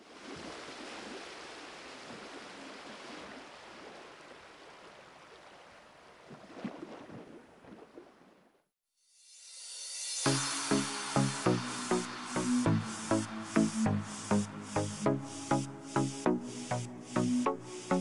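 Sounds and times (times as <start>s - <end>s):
rushing water noise: 0.0s - 7.1s, 9.3s - 18.0s.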